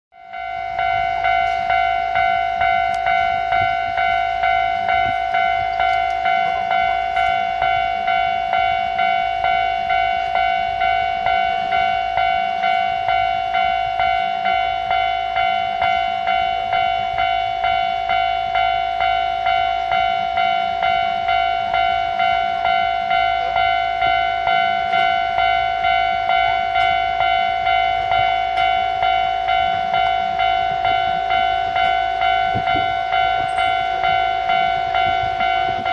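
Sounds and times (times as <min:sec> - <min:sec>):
level crossing electronic bell: 0:00.2 - 0:35.9.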